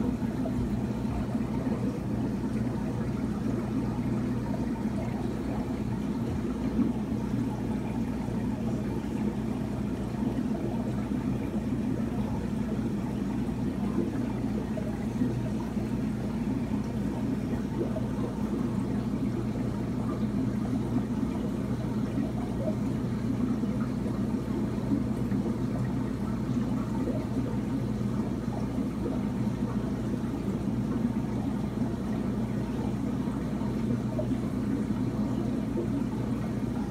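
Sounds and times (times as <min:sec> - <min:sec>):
aquarium filter humming: 0:00.0 - 0:36.9.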